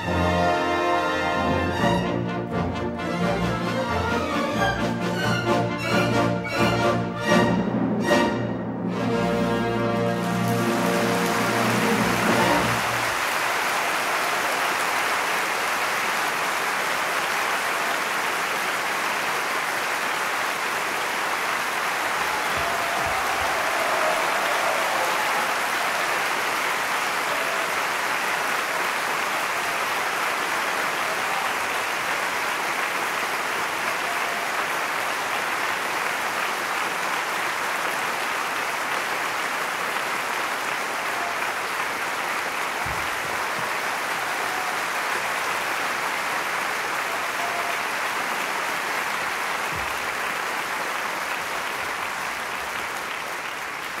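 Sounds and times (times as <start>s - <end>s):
audience applause: 0.0s - 54.0s.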